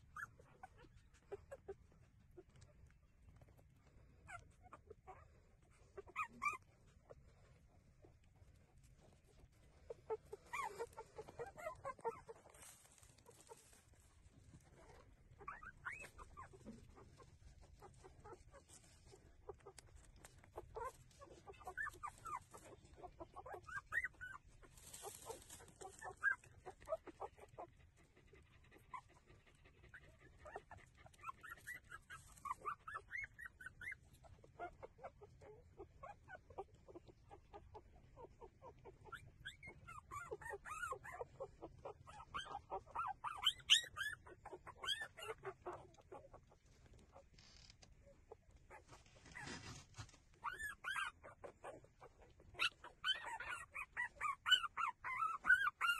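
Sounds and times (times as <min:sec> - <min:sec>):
puppies squeaking and whimpering: 0:00.0 - 0:03.6, 0:04.2 - 0:27.8, 0:28.4 - 0:55.9.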